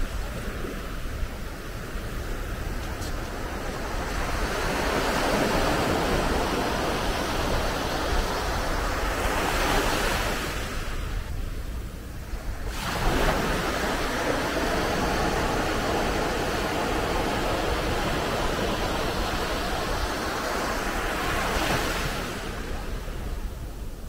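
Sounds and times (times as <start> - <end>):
small waves breaking on a beach: 0.0 - 24.0.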